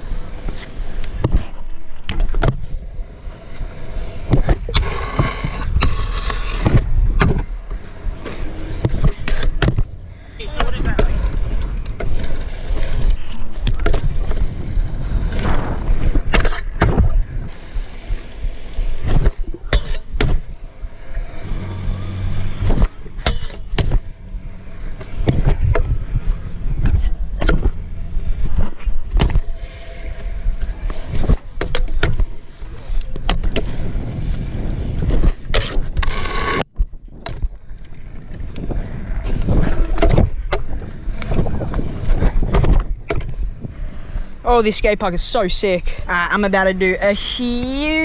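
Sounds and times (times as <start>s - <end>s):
scooter wheels rumbling on concrete: 2.1s - 48.0s.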